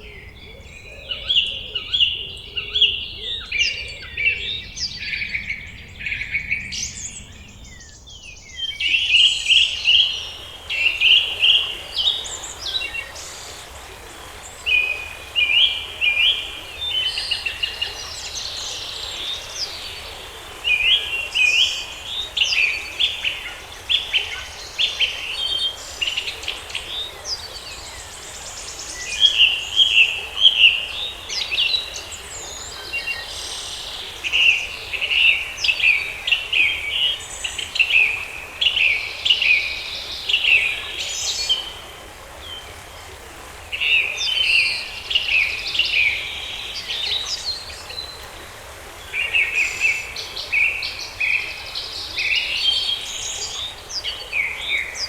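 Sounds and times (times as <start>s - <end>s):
faint steady hiss: 0.0s - 55.0s
songbirds chirping and singing: 0.0s - 55.0s.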